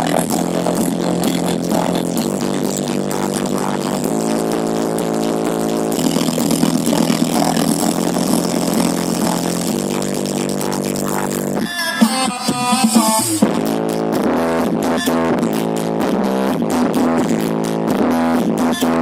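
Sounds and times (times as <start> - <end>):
buzzing engine-like drone: 0.0 - 18.0.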